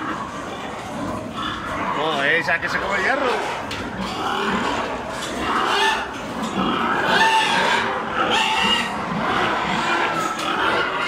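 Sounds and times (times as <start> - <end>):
pigs squealing and grunting: 0.0 - 11.0.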